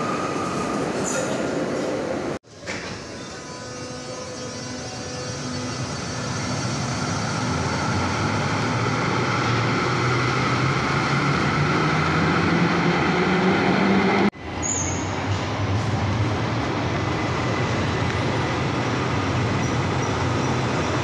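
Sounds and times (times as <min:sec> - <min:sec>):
light-rail car rumbling: 0:00.0 - 0:21.0.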